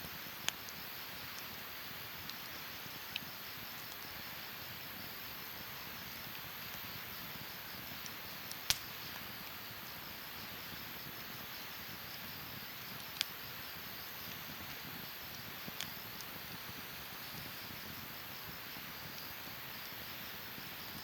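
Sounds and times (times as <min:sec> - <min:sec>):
campfire hissing: 0:00.0 - 0:21.0
sharp crackling fire pops: 0:00.1 - 0:21.0.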